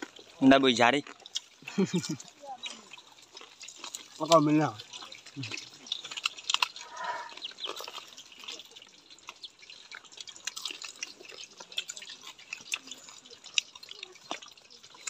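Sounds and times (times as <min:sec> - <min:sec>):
crispy fritters crunching: 0:00.0 - 0:15.0.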